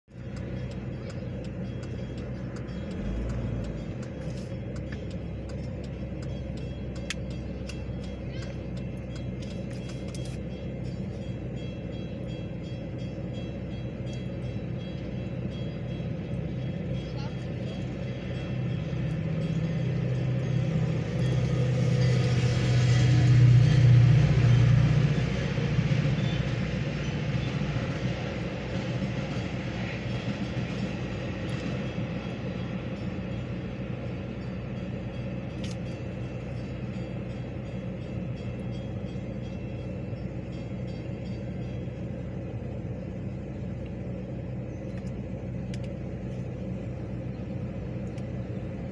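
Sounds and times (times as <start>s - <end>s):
diesel train passing: 0.0s - 48.9s.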